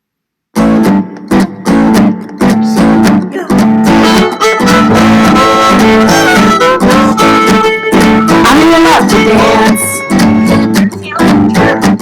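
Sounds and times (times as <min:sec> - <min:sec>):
upbeat song with strummed guitar: 0:00.6 - 0:12.0.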